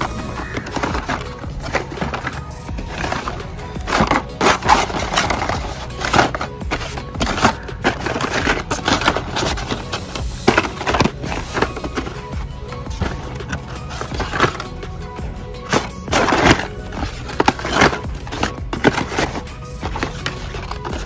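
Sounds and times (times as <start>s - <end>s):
plastic packages clacking and scraping: 0.0s - 21.0s.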